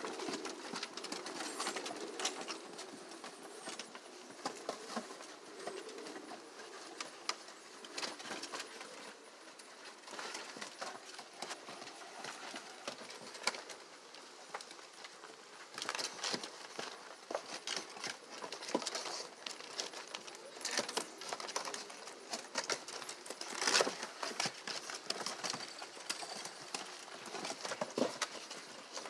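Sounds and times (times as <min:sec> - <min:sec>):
puppies scuffling on wooden boards: 0:00.0 - 0:29.0.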